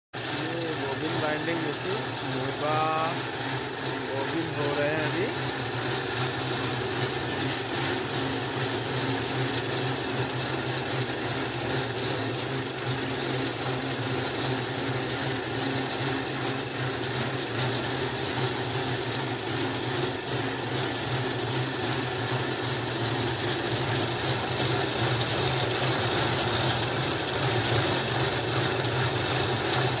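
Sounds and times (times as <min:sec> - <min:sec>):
winding machine humming: 0:00.2 - 0:30.0.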